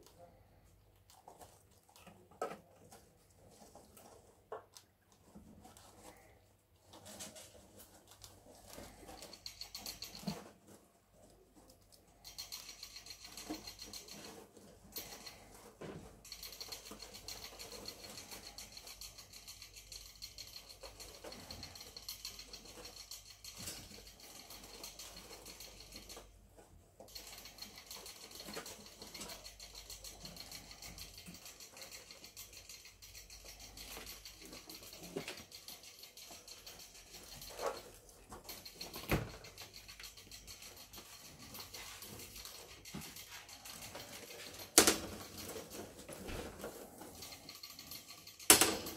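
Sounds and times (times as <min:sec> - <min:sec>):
rats scurrying in wood shavings: 0:00.0 - 0:48.9
small scratches and clicks: 0:00.0 - 0:48.9.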